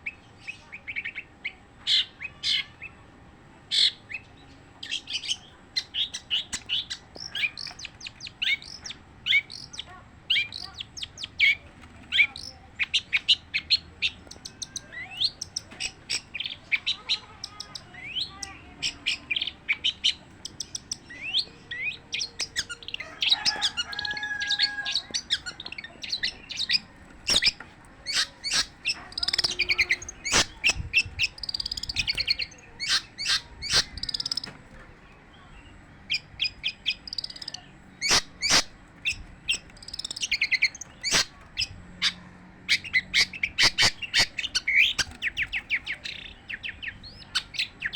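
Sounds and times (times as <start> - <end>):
bird singing high chirps: 3.7 - 34.5, 35.5 - 47.9.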